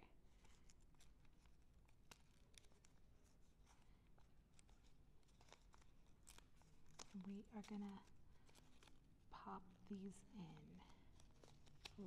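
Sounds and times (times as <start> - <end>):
paper rustling and ticking: 0.3 - 9.2, 10.3 - 12.0.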